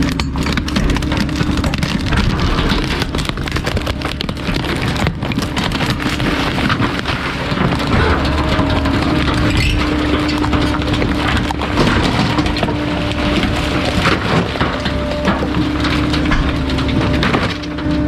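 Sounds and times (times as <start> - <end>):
compactor crushing waste: 0.0 - 18.0
truck humming: 0.0 - 18.0.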